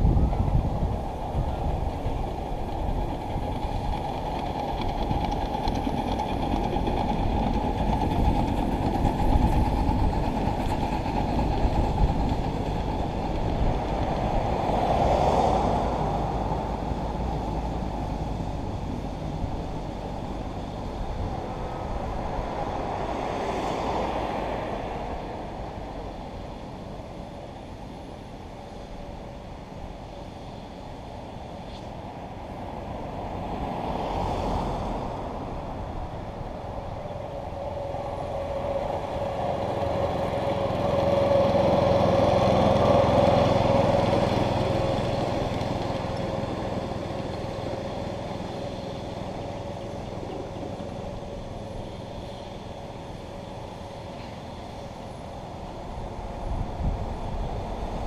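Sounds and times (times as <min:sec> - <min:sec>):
miniature train wheels on rails: 0:00.0 - 0:58.0.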